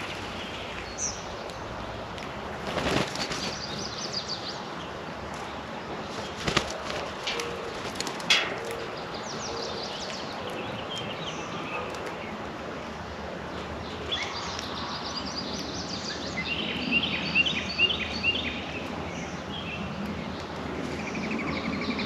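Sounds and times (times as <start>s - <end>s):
outdoor background noise: 0.0s - 22.0s
songbirds chirping: 0.0s - 22.0s.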